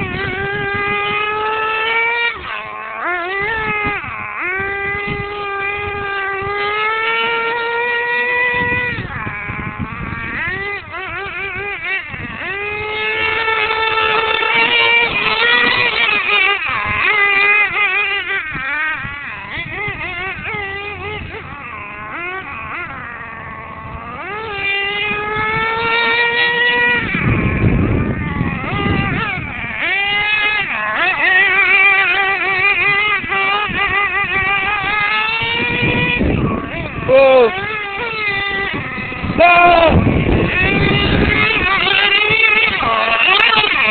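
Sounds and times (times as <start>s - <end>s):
toy truck motor whining: 0.0s - 43.9s.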